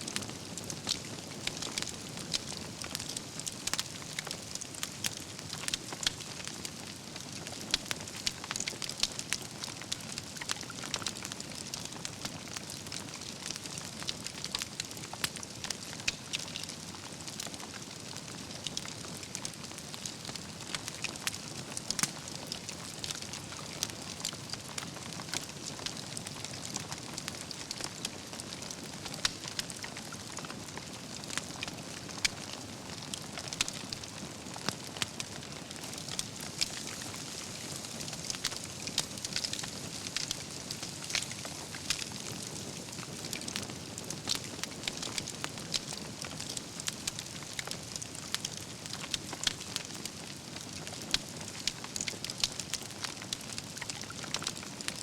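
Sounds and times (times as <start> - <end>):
burning logs crackling and popping: 0.0 - 55.0
campfire flames rushing: 0.1 - 54.9.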